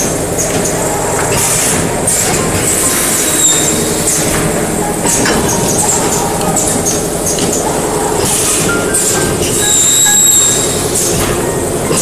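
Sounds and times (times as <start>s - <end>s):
packing machine clatter: 0.0s - 12.0s.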